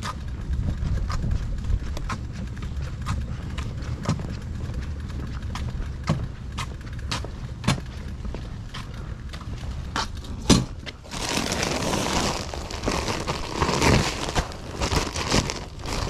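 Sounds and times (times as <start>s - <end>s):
footsteps on concrete: 0.0s - 16.0s
steady rustling: 0.0s - 16.0s.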